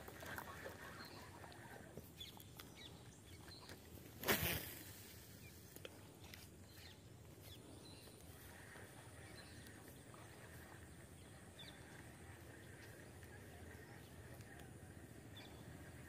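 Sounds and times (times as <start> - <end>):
faint chirps and ticks: 0.0 - 4.0, 5.4 - 16.0
faint marsh ambience: 0.0 - 16.0.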